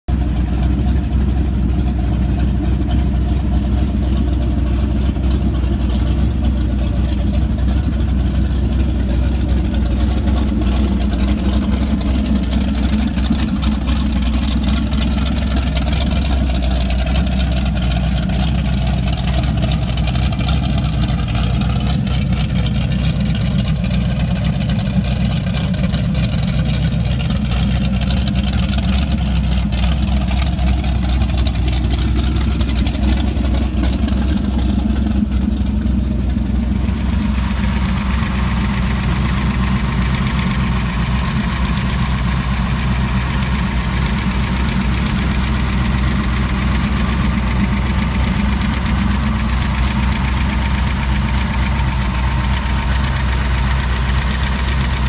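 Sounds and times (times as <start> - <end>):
boat engine exhaust rumble: 0.1 - 55.0
water splashing: 0.2 - 55.0.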